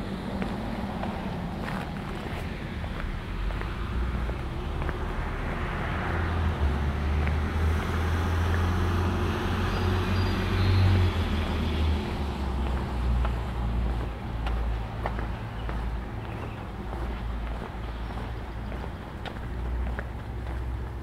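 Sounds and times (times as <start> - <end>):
road vehicle passing by: 0.0 - 21.0.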